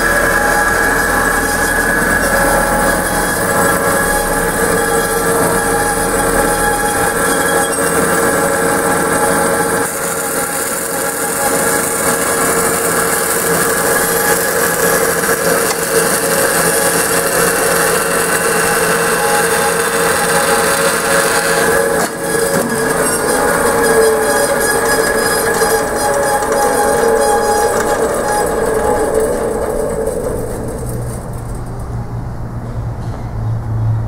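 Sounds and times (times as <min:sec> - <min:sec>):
band saw running: 0:00.0 - 0:31.8.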